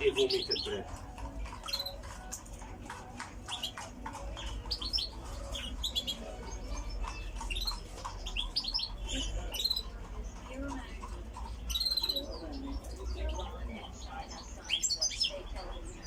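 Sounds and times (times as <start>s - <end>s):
small cage birds chirping: 0.0s - 16.0s.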